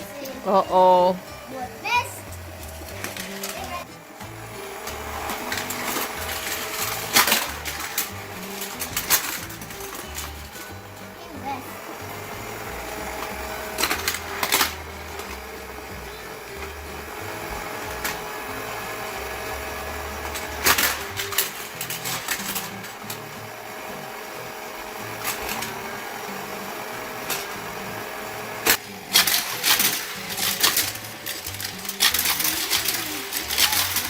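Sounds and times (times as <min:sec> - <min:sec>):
toy cars clacking on plastic track: 0:00.0 - 0:00.7, 0:01.4 - 0:34.0
toy race track motor whirring: 0:00.0 - 0:34.0.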